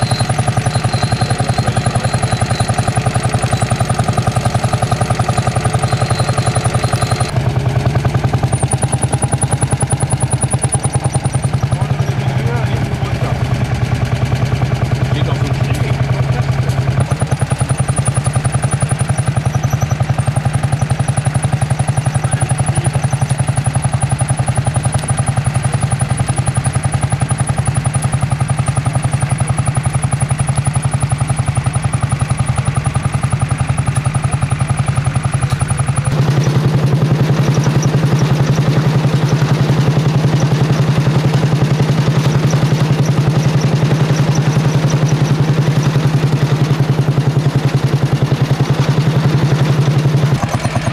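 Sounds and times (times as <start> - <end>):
tractor engine chugging: 0.0 - 50.9.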